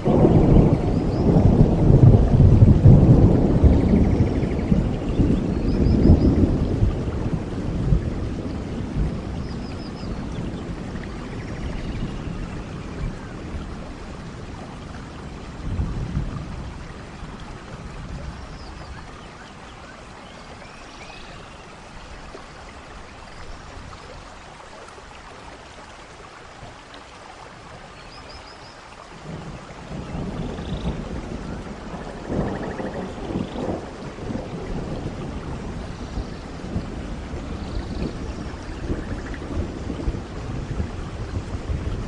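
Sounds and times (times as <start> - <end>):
heavy rain on foliage: 0.0 - 42.0.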